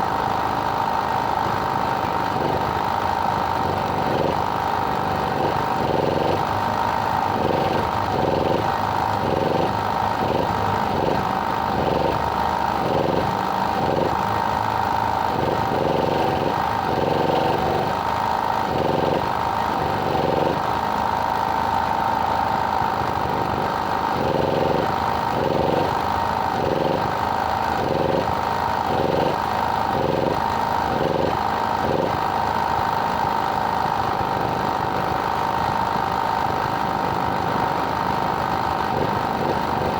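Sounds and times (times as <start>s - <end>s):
regular engine pulsing: 0.0s - 39.9s
small engine droning: 0.0s - 39.9s.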